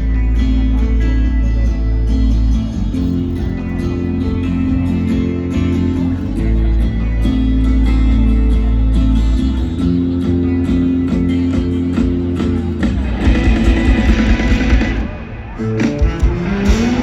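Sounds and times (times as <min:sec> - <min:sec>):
electric guitar: 0:00.0 - 0:17.0
heavy steady bass: 0:00.0 - 0:17.0.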